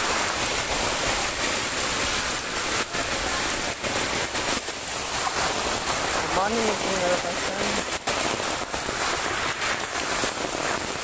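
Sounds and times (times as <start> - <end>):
fast-flowing floodwater: 0.0 - 11.0
heavy rain: 0.0 - 11.0.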